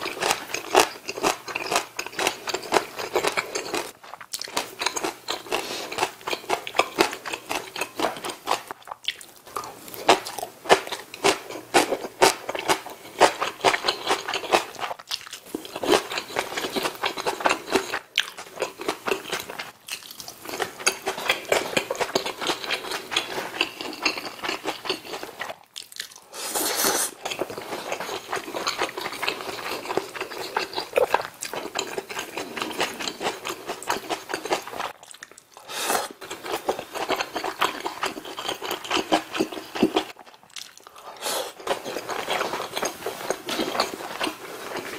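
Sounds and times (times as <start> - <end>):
close-miked chewing and crunching: 0.0 - 44.9.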